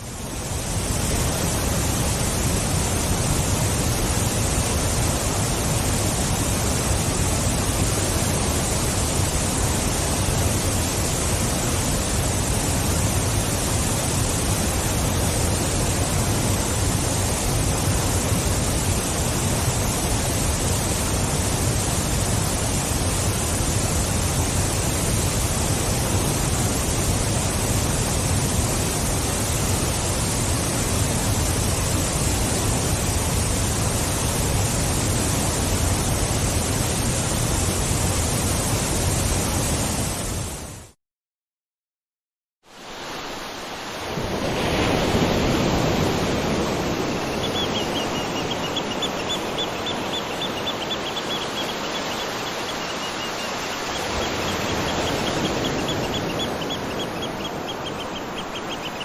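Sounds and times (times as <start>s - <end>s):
waterfall rushing: 0.0s - 40.6s, 42.7s - 59.0s.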